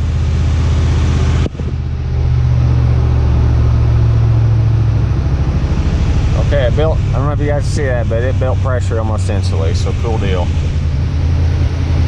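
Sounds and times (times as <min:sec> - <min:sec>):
engine fast idle: 0:00.0 - 0:12.0.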